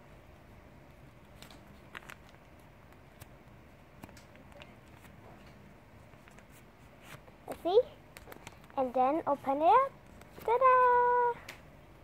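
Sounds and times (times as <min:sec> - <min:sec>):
faint steady background noise: 0:00.0 - 0:12.0
paper folding crackles: 0:01.0 - 0:11.4.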